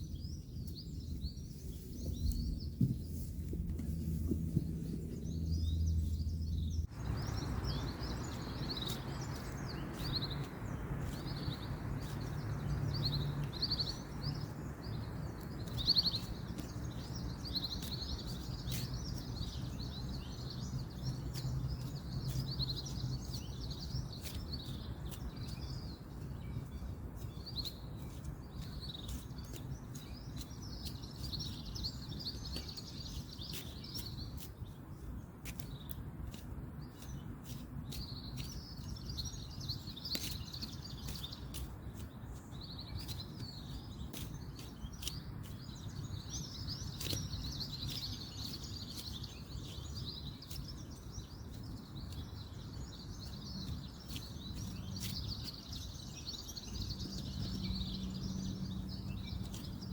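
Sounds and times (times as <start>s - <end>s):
small birds chirping: 0.0s - 59.9s
distant road noise: 2.4s - 33.6s, 37.4s - 59.9s.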